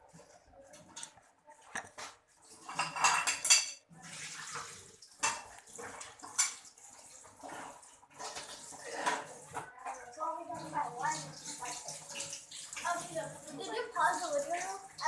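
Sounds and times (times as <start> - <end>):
pots and pans clattering: 0.2 - 12.9.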